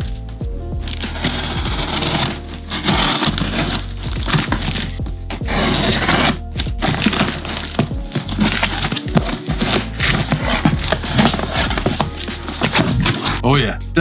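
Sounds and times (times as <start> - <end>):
background music: 0.0 - 14.0
cardboard crackling and scraping: 0.8 - 13.5
knife slitting packing tape: 0.9 - 13.4.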